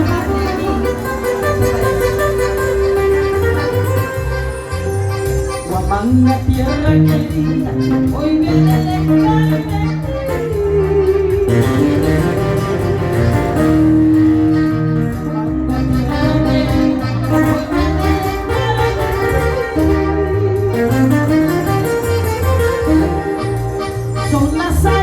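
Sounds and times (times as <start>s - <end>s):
guitar-led folk melody with bass: 0.0s - 25.0s.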